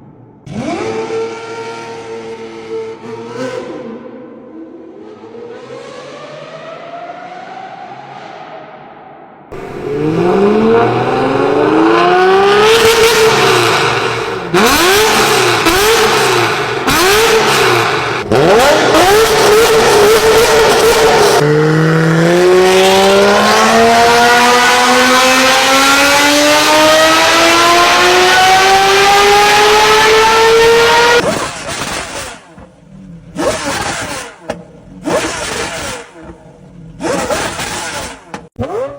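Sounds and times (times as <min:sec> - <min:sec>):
car engine revving hard: 0:00.5 - 0:04.1, 0:09.5 - 0:38.9.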